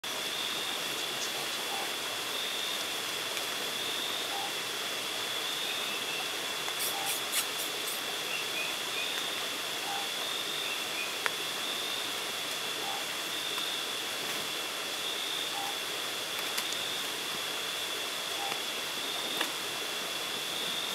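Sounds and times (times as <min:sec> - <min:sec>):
steady hiss: 0:00.0 - 0:20.9.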